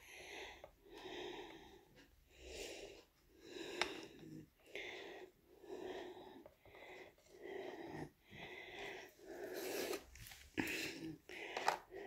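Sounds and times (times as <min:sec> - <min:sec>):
woman breathing fast: 0:00.0 - 0:12.0.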